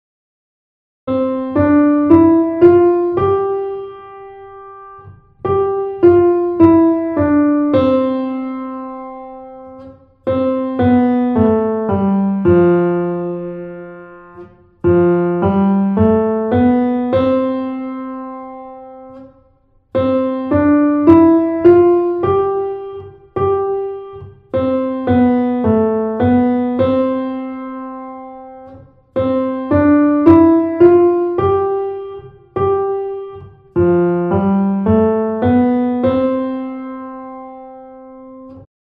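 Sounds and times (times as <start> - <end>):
grand piano melody: 1.1 - 38.7.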